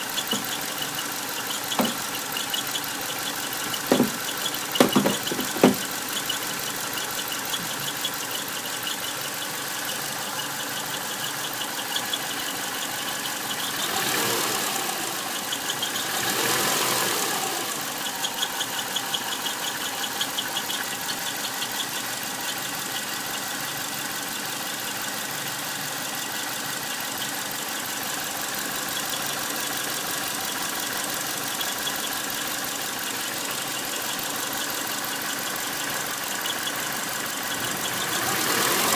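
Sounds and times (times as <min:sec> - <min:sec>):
fast rhythmic high squeal: 0:00.0 - 0:16.8, 0:17.4 - 0:25.2, 0:27.0 - 0:38.9
car engine idling: 0:00.0 - 0:38.9.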